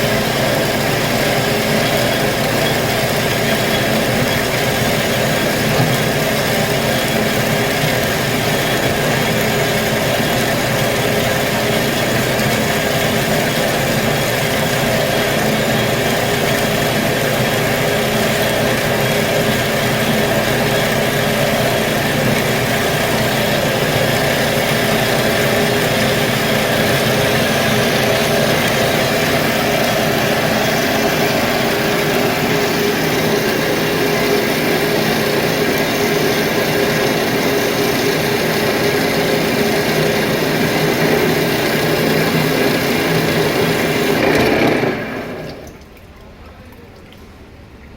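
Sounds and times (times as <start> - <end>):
machine humming steadily: 0.0 - 47.9.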